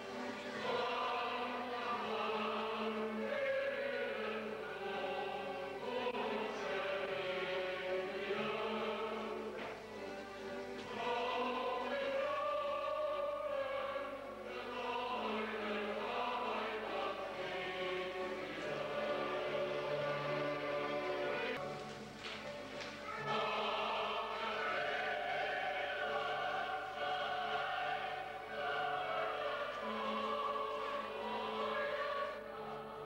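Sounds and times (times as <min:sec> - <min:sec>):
choir singing held notes: 0:00.0 - 0:33.0.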